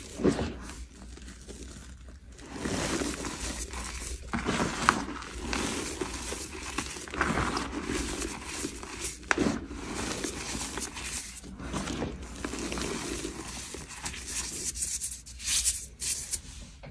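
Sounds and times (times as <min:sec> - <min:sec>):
hands crushing gritty chalk: 0:00.0 - 0:16.5.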